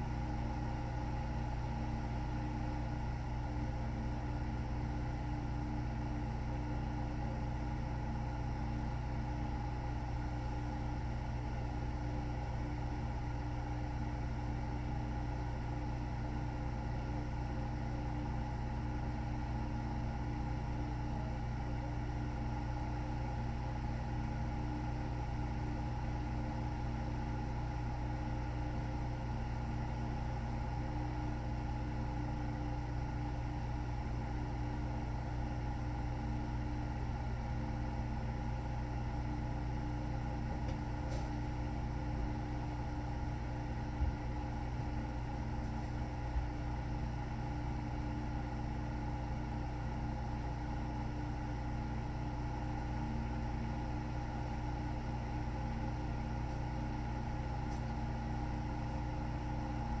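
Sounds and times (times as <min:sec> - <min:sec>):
steady machine hum: 0:00.0 - 1:00.0.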